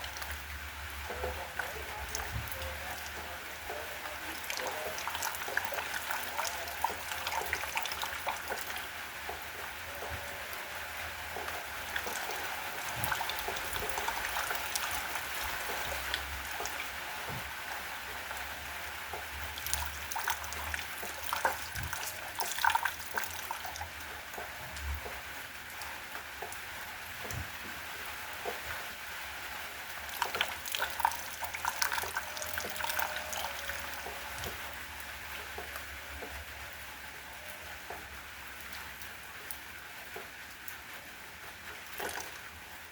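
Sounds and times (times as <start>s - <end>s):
water drops dripping: 0.0s - 40.9s, 41.5s - 42.9s
rain falling steadily: 0.0s - 42.9s.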